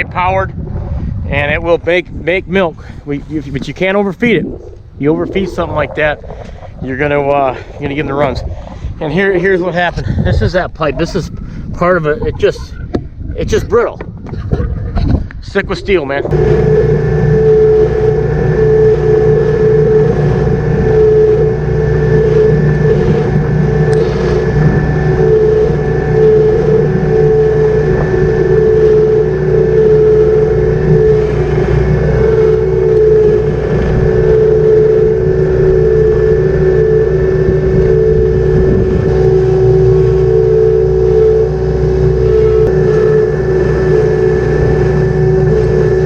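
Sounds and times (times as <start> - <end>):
engine droning: 1.8 - 13.9, 15.6 - 46.0.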